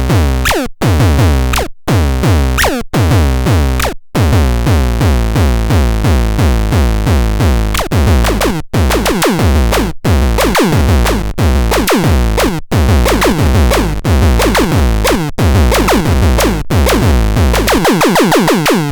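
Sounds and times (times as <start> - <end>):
electronic music with looping beat: 0.0 - 4.5, 6.1 - 18.9.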